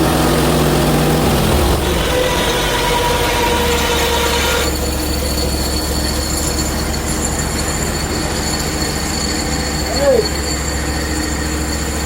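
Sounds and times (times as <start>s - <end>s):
band sawmill whining: 0.0s - 12.0s.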